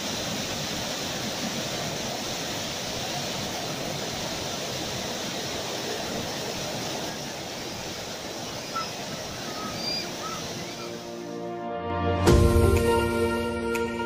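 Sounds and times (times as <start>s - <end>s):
stream rushing over rocks: 0.0s - 11.5s.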